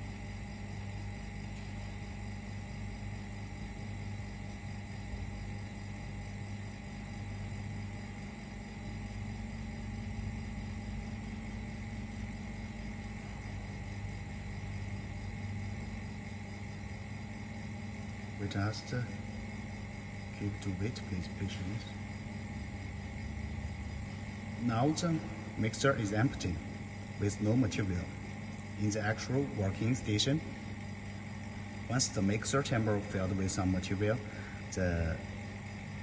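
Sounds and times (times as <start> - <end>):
vacuum pump humming: 0.0 - 36.0.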